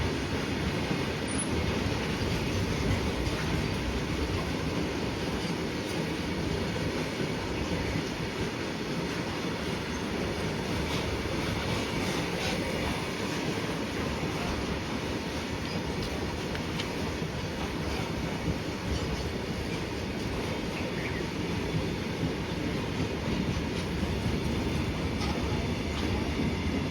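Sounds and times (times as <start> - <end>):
freight train rumbling on rails: 0.0 - 26.9
train wheels clicking: 0.0 - 26.9.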